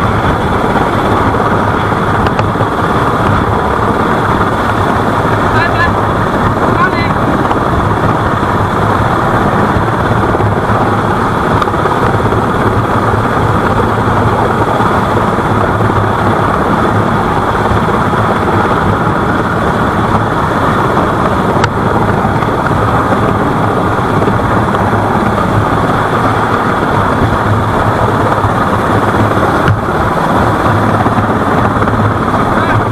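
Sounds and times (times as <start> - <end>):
engine running steadily: 0.0 - 32.9
rushing noise: 0.0 - 32.9.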